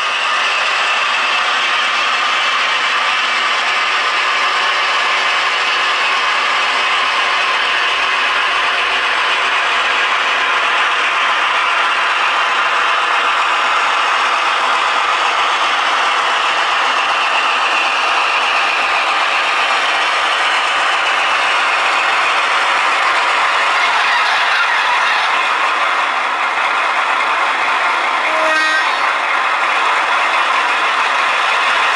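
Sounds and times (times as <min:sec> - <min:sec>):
model train motor whirring: 0:00.0 - 0:31.9
wheels rattling on rails: 0:00.0 - 0:31.9.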